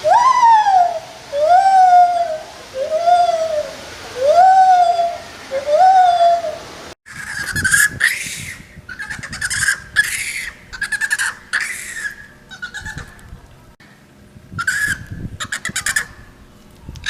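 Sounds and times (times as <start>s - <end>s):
monkey screechy calls: 0.0s - 13.2s, 14.6s - 16.3s
monkey whistle-like calls: 0.0s - 13.2s, 14.6s - 16.2s.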